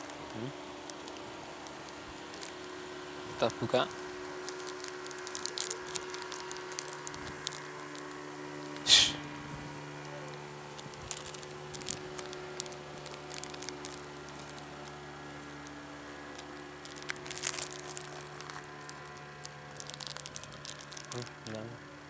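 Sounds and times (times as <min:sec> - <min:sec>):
plastic wrapper crinkling: 0:00.0 - 0:22.0
steady electrical hum: 0:00.0 - 0:22.0.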